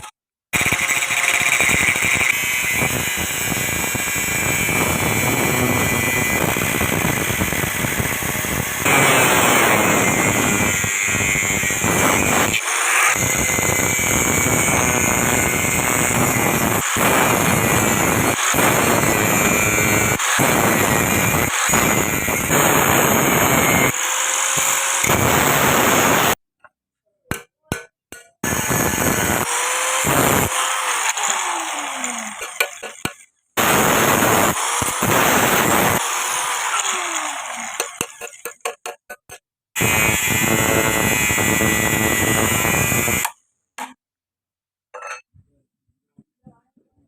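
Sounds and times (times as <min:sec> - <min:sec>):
power tool grinding steel: 0:00.0 - 0:26.4, 0:27.3 - 0:43.4.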